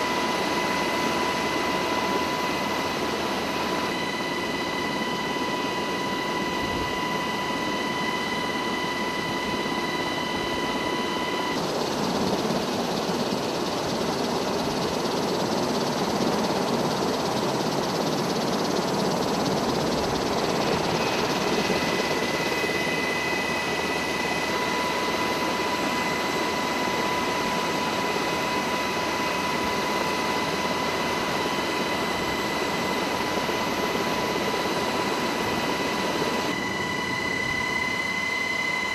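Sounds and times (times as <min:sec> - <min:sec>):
helicopter rotor and turbine rush: 0:00.0 - 0:38.9
high turbine whine: 0:00.0 - 0:38.9.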